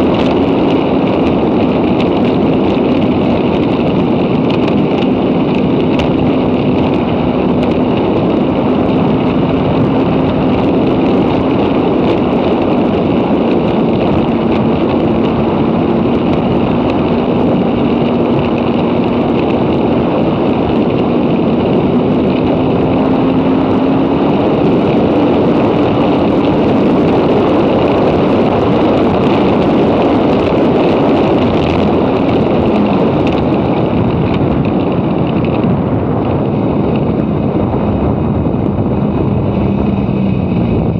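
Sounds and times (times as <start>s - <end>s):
jet ski engine at high speed: 0.0s - 40.9s
rush of wind and water: 0.0s - 40.9s.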